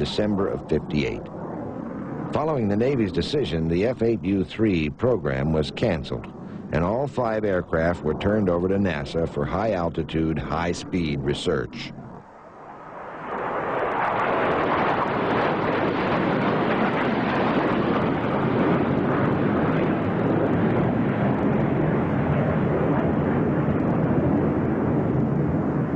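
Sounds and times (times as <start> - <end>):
jet engine rushing: 0.0 - 25.9.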